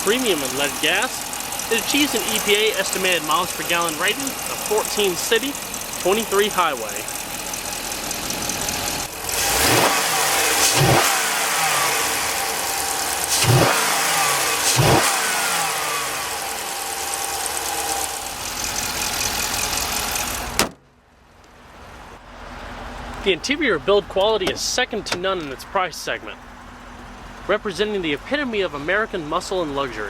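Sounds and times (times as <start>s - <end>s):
car engine revving and idling: 0.0s - 20.6s, 21.3s - 30.0s.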